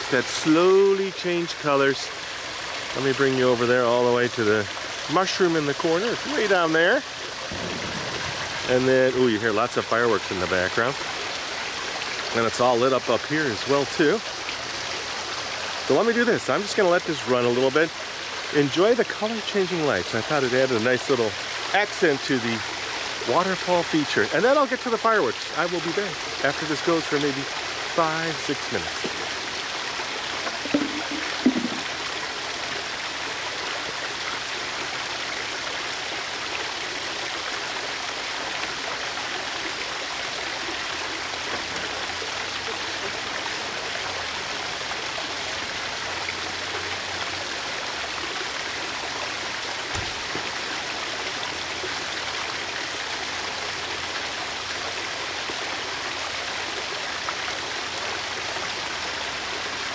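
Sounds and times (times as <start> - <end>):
waterfall splashing: 0.0 - 59.9.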